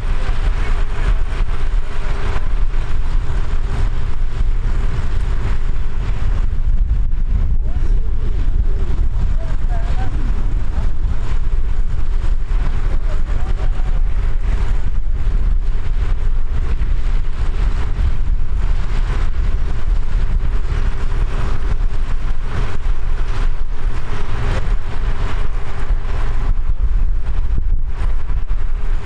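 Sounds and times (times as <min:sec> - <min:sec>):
tractor engines running: 0:00.0 - 0:29.0
wind on microphone: 0:00.0 - 0:29.0.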